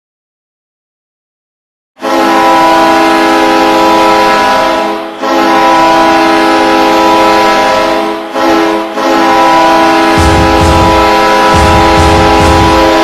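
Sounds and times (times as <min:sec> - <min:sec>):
hockey goal horn blasts: 0:02.0 - 0:13.0.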